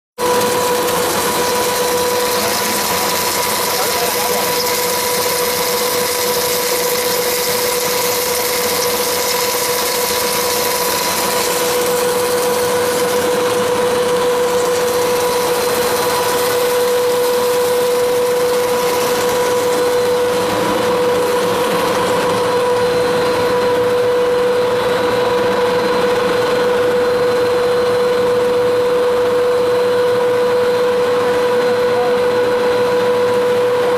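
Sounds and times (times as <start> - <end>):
constant machine whine: 0.2 - 33.9
machine mechanical hum: 0.2 - 33.9.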